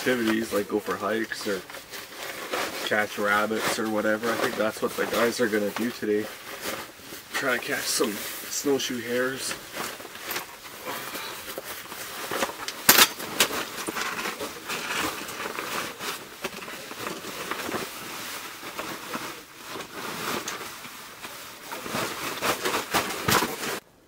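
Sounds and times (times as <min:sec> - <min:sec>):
fabric rustling: 0:00.0 - 0:23.8.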